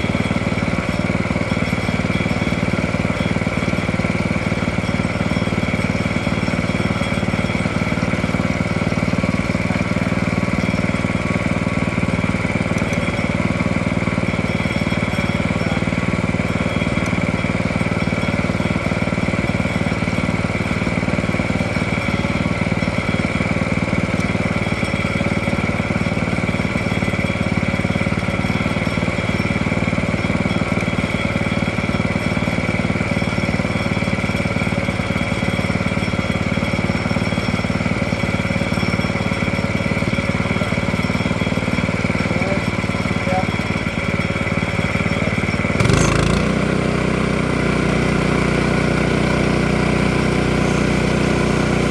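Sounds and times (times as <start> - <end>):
sawmill engine running: 0.0 - 51.9.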